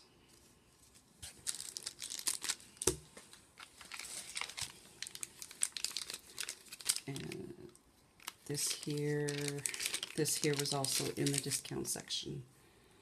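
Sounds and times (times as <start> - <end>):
plastic packaging crinkling: 0.9 - 12.1.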